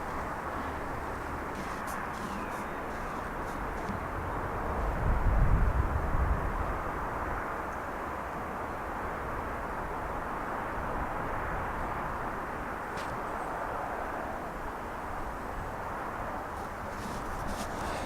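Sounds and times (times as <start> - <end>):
distant outdoor background noise: 0.0 - 18.0.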